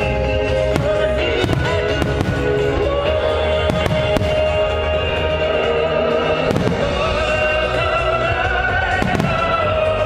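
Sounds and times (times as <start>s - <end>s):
loud music: 0.0s - 10.0s.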